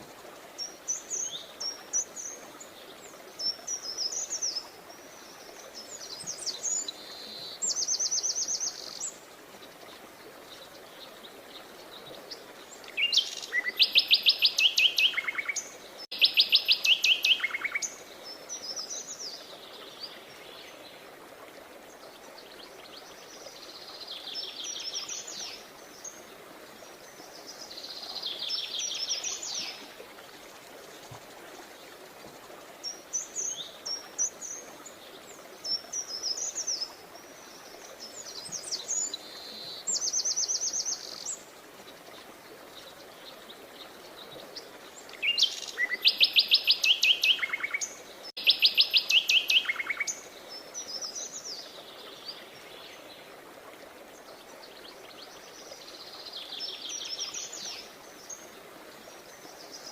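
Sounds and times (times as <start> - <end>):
faint background hiss: 0.0 - 59.9
songbirds singing: 0.6 - 21.1, 21.8 - 59.9.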